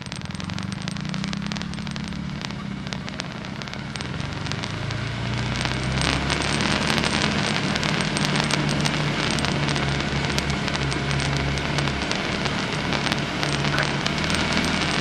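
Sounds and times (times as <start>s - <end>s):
off-road vehicle engine: 0.0s - 15.0s
rocks crackling under tyres: 0.0s - 15.0s.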